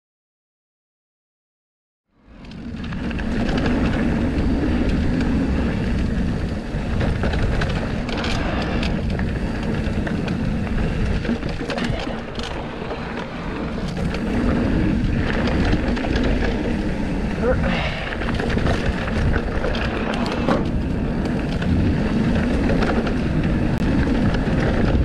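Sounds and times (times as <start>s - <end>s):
bike tyres on dirt trail: 2.2s - 25.0s
sharp rattles and clicks: 2.3s - 25.0s
wind buffeting microphone: 2.4s - 25.0s.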